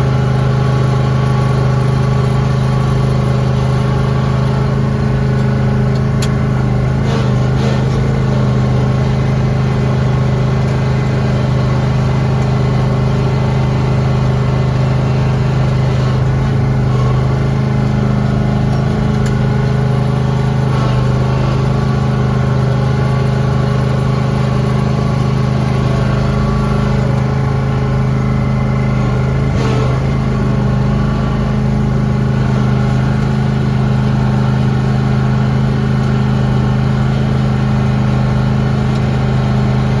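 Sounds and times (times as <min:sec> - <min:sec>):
lawn tractor engine running: 0:00.0 - 0:40.0.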